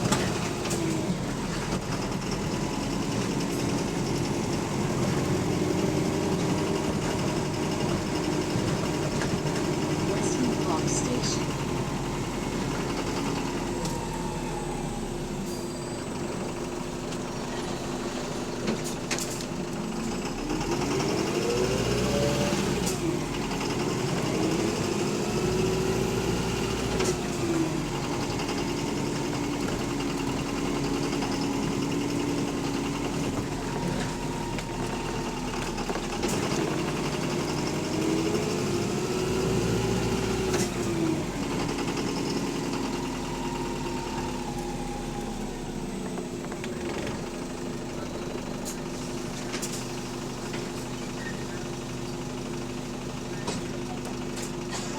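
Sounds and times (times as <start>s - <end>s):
bus diesel engine knocking: 0.0s - 54.9s.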